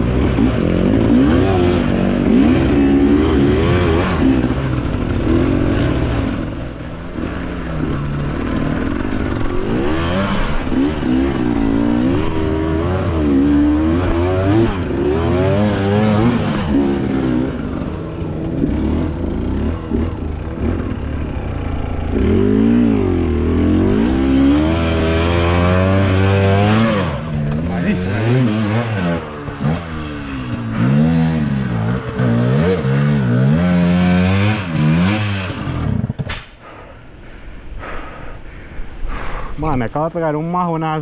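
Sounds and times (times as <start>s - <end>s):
dirt bike engine revving: 0.0s - 36.2s.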